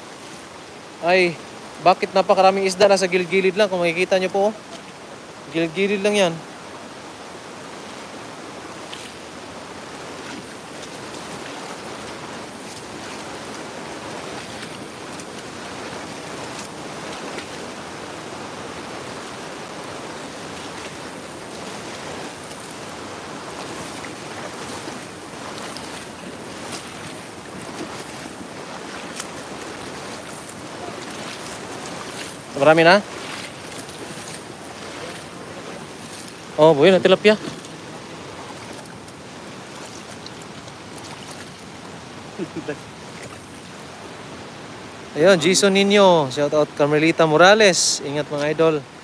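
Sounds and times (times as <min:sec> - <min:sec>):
floodwater rushing: 0:00.0 - 0:49.0
boots splashing through water: 0:01.4 - 0:44.5.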